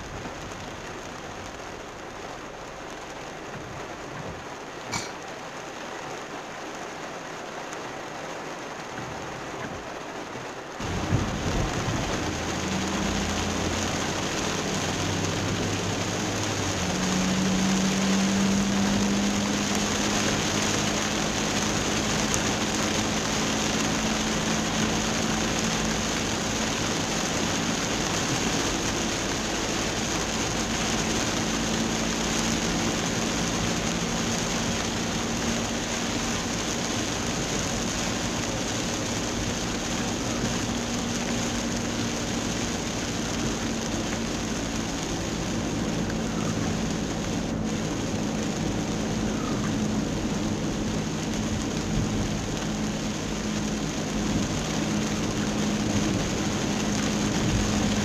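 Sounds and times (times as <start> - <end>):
car engine hum: 0.0 - 58.0
heavy rain on car roof: 0.0 - 58.0
tyres hissing on wet road: 0.0 - 58.0.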